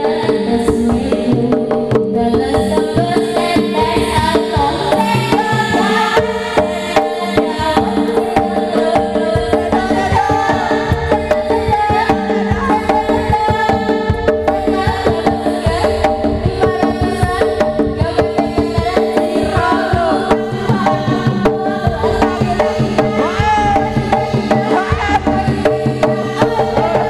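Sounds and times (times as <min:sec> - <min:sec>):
hand drums beating: 0:00.0 - 0:27.0.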